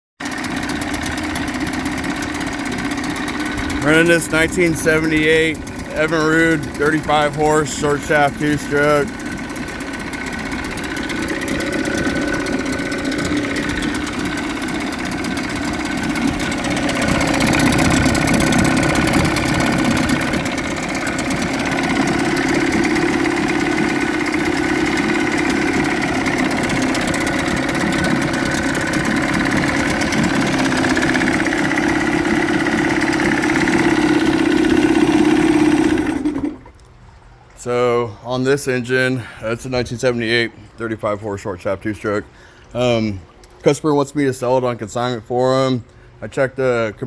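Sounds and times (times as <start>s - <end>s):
outboard motor running: 0.2s - 46.2s.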